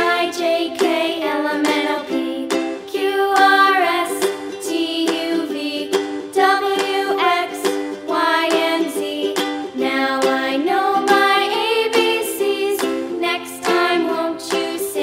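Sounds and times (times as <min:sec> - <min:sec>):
light tune with plucked strings: 0:00.0 - 0:15.0.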